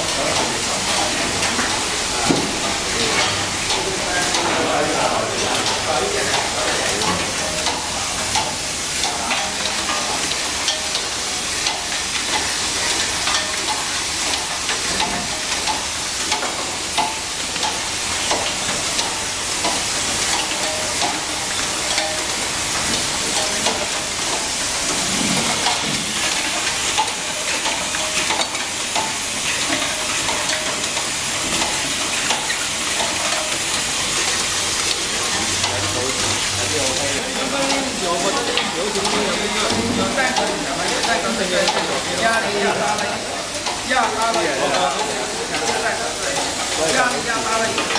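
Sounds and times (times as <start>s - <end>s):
constant machine hiss: 0.0s - 47.9s
machine clattering clicks: 0.0s - 47.9s.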